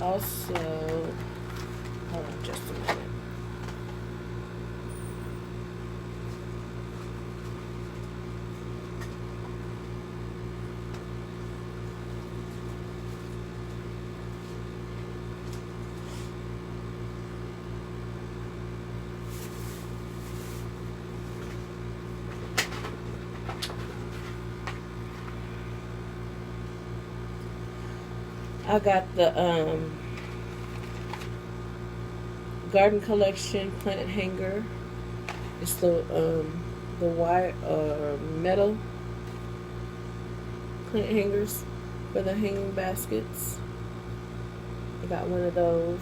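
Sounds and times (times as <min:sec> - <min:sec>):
machine hum: 0:00.0 - 0:46.0.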